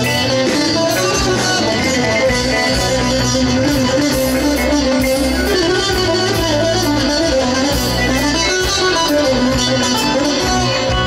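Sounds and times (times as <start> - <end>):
bouzouki melody: 0.0 - 11.0
live band playing: 0.0 - 11.0.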